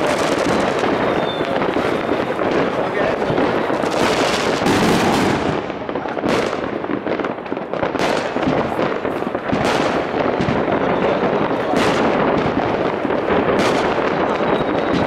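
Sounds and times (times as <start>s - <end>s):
fireworks banging and crackling: 0.0s - 15.0s
sharp firework bangs: 0.0s - 15.0s.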